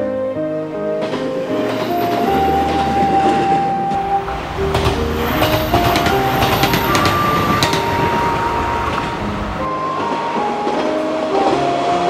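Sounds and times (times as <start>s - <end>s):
gentle background music: 0.0s - 12.0s
passenger train rumbling past: 0.7s - 12.0s
train wheels clicking over rail joints: 1.0s - 12.0s.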